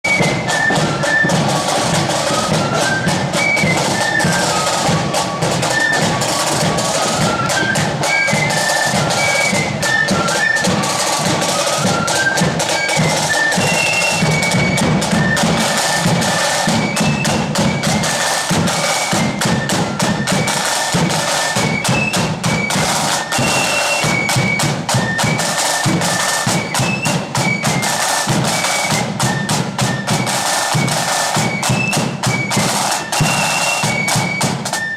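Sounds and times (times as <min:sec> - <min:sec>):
flutes playing a march melody: 0:00.0 - 0:34.9
side drumming: 0:00.0 - 0:34.9.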